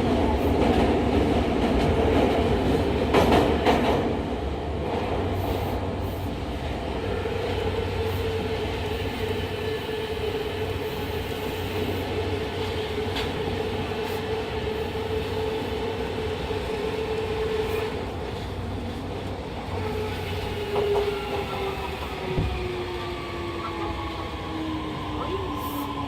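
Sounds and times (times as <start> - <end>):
train running in tunnel: 0.0 - 26.0.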